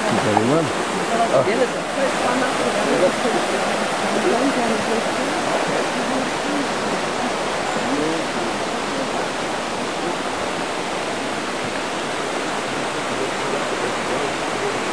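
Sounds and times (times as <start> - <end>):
faint voices: 0.0 - 14.9
water rushing over rocks: 0.0 - 14.9.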